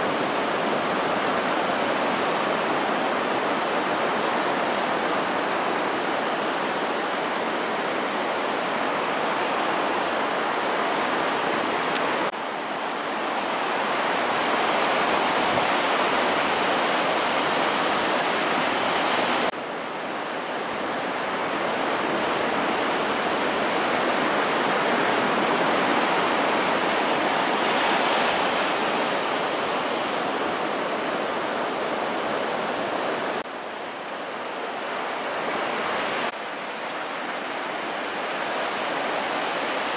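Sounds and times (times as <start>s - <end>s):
small waves breaking: 0.0s - 39.9s
surf rushing up beach: 0.0s - 39.9s.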